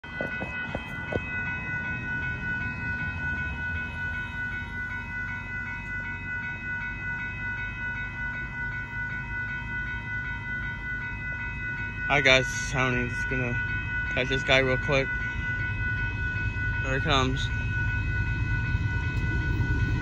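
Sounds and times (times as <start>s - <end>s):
crossing warning bell ringing: 0.0s - 20.0s
road traffic rumble: 0.0s - 20.0s.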